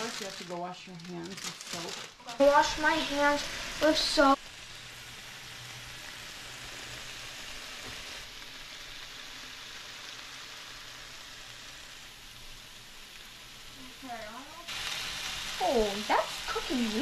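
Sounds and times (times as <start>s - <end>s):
bacon sizzling in a skillet: 0.0s - 17.0s.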